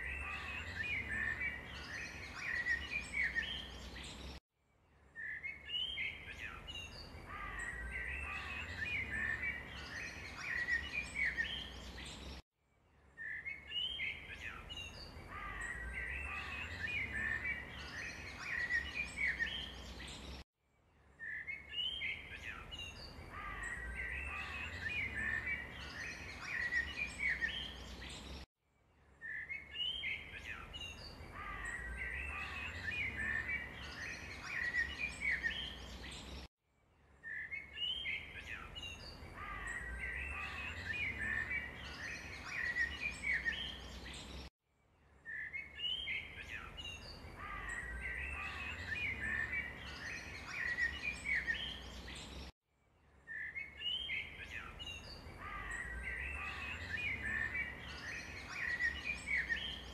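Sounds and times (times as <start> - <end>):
small birds chirping: 0.0 - 4.4, 5.1 - 12.4, 13.0 - 20.4, 21.1 - 28.5, 29.1 - 36.5, 37.2 - 44.5, 45.1 - 52.5, 53.2 - 59.9.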